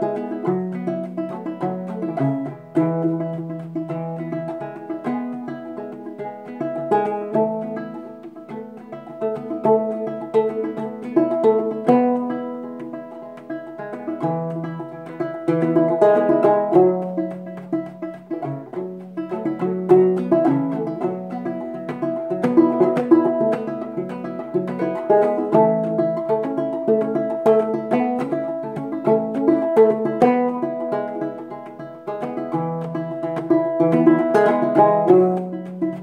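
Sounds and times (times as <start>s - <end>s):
banjo plucked and strummed: 0.0s - 36.0s.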